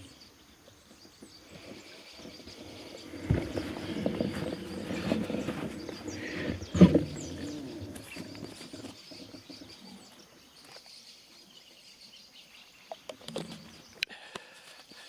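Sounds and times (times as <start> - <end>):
faint bird chirps: 0.0 - 14.1.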